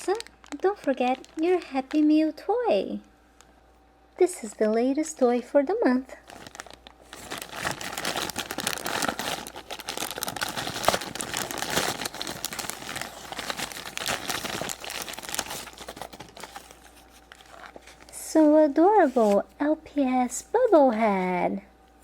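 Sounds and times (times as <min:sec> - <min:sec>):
plastic packaging crinkling: 0:00.0 - 0:02.7, 0:06.1 - 0:21.2.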